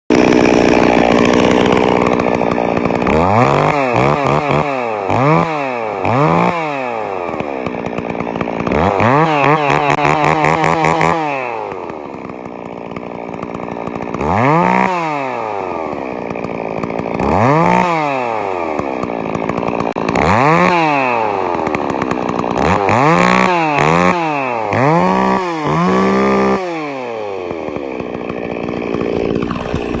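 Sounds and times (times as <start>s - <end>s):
chainsaw engine revving: 0.1s - 30.0s.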